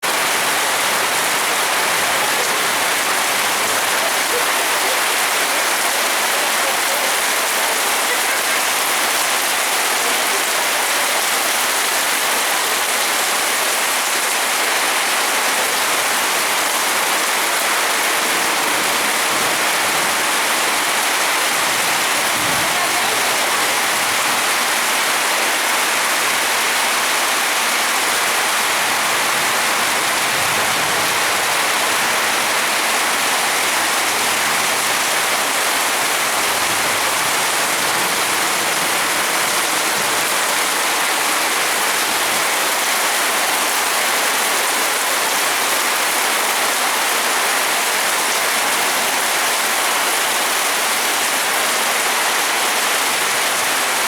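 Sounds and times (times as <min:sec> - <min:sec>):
heavy rain on surfaces: 0:00.0 - 0:54.0.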